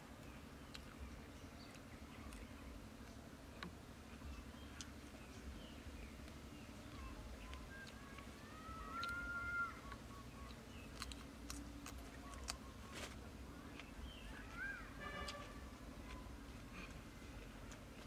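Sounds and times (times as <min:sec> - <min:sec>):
birds calling: 0:00.0 - 0:18.0
crunching of chewing: 0:00.1 - 0:18.0.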